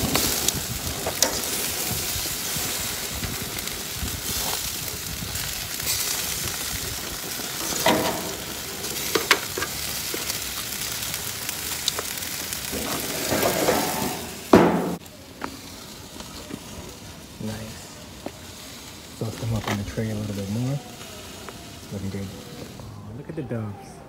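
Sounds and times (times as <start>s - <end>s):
meat sizzling on grill: 0.0s - 23.2s.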